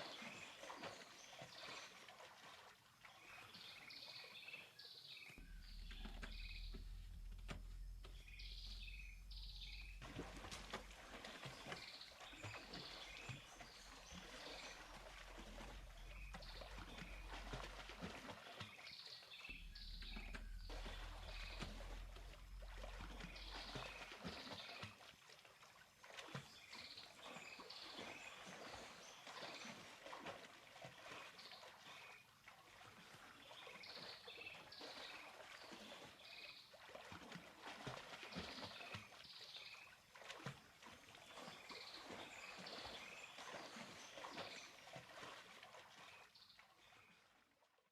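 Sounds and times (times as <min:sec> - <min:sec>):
water splashing and trickling: 0:00.0 - 0:47.9.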